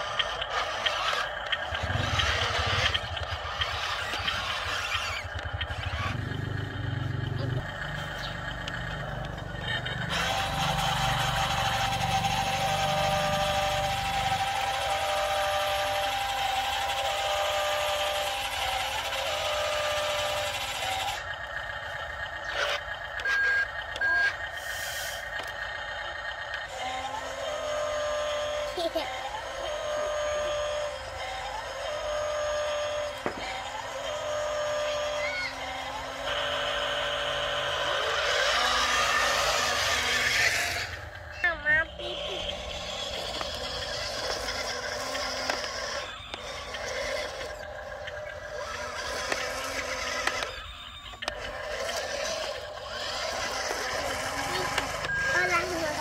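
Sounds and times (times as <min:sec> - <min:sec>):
small electric motor whining: 0:00.0 - 0:56.0.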